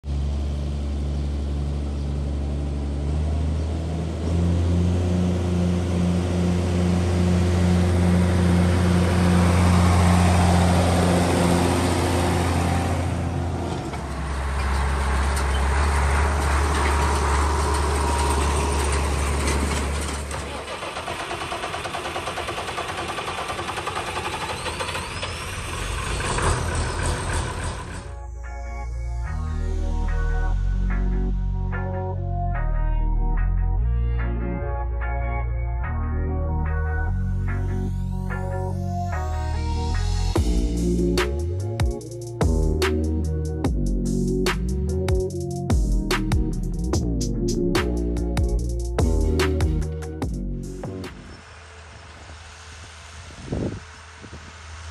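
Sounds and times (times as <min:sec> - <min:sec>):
tractor engine running: 0:00.0 - 0:28.4, 0:37.5 - 0:54.9.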